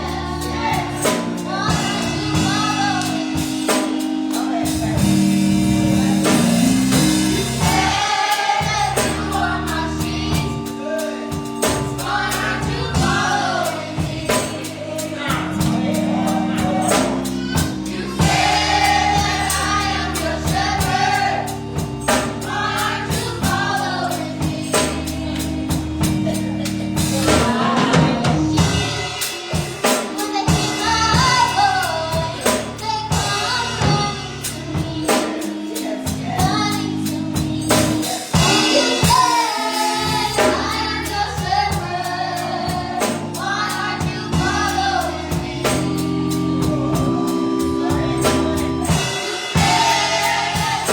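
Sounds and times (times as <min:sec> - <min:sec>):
drum kit beat: 0:00.0 - 0:50.9
gospel choir singing: 0:00.0 - 0:50.9
keyboard or organ chords: 0:00.0 - 0:50.9.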